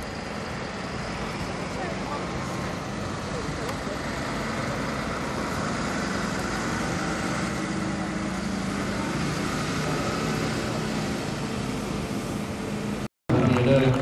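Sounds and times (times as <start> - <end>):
outdoor noise: 0.0 - 14.0
vehicle engine running: 0.0 - 14.0.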